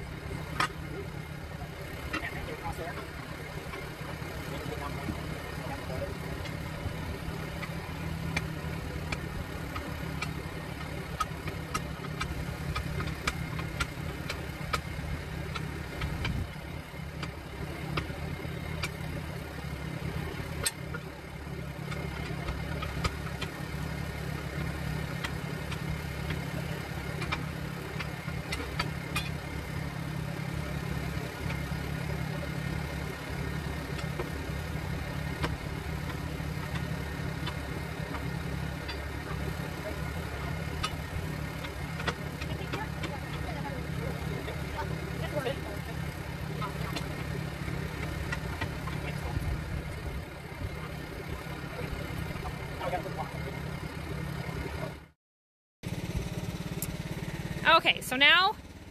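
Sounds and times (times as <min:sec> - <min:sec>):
tire irons clinking on rim: 0:00.0 - 0:55.1
engine idling hum: 0:00.0 - 0:55.2, 0:55.8 - 0:58.9.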